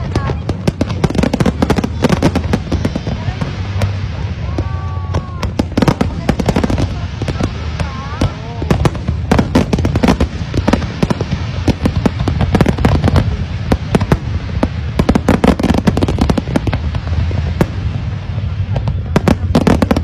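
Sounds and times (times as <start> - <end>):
fireworks bangs and crackles: 0.0 - 20.0
low rumble: 0.0 - 20.0.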